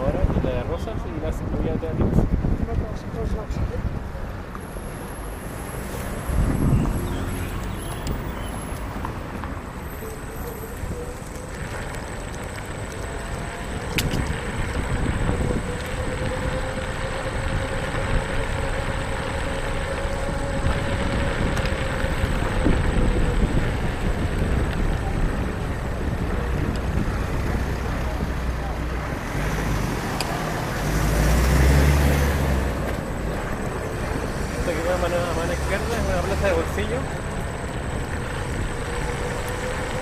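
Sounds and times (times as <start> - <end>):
wind on microphone: 0.0 - 4.4, 5.4 - 35.8, 37.0 - 40.0
scooter tyres rolling on pavement: 0.0 - 40.0.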